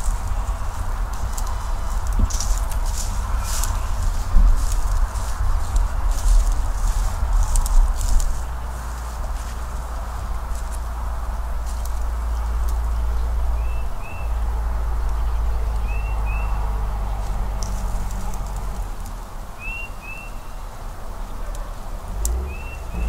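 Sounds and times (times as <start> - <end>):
low rumble and hiss: 0.0 - 23.0.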